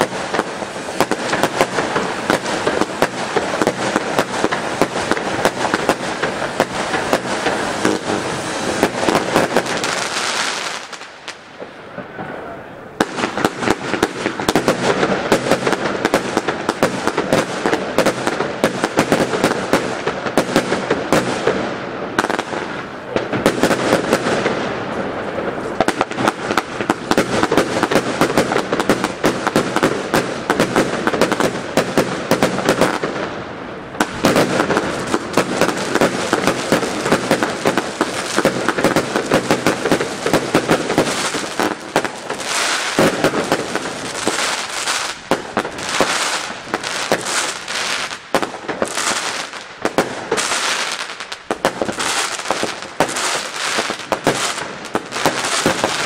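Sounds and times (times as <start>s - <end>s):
fireworks launching and bursting: 0.0s - 56.0s.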